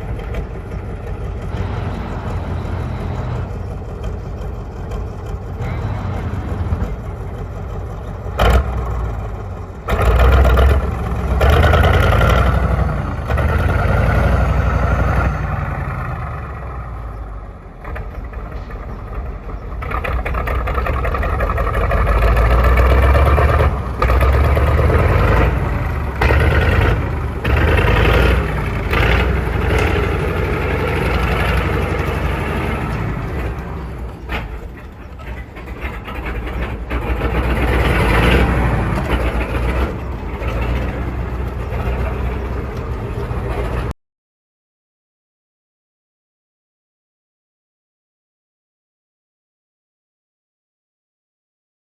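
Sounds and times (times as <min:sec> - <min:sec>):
tank diesel engine revving: 0:00.0 - 0:43.9.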